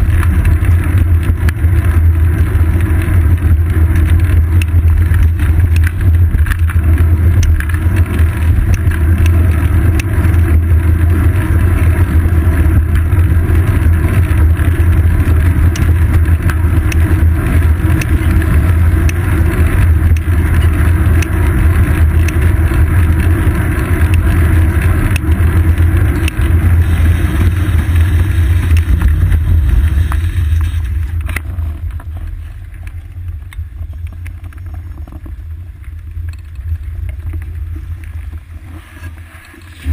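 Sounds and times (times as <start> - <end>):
bicycle road vibration rumble: 0.0 - 39.9.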